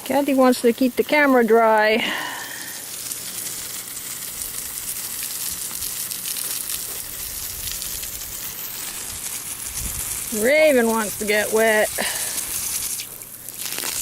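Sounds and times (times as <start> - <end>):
garden hose spraying water: 0.0 - 14.0.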